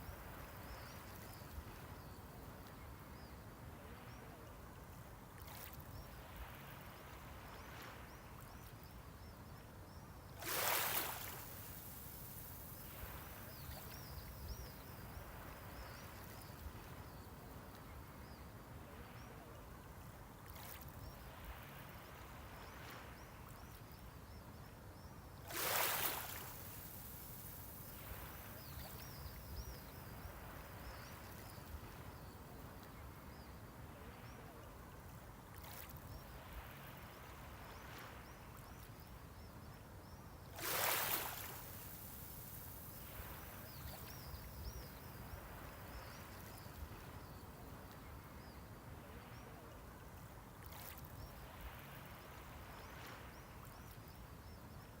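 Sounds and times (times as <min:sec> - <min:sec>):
small waves breaking on shore: 0:00.0 - 0:03.0, 0:03.7 - 0:08.8, 0:10.3 - 0:23.8, 0:25.4 - 0:39.4, 0:40.1 - 0:55.0
low wash of sea: 0:00.0 - 0:55.0.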